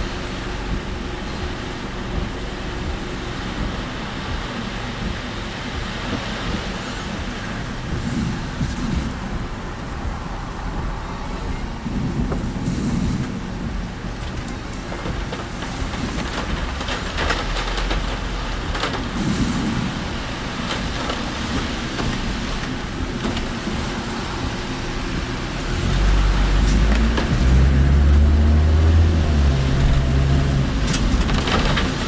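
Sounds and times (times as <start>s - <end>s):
car tyre noise on wet road: 0.0s - 32.0s
heavy rain: 0.0s - 32.0s
wind: 0.0s - 32.0s.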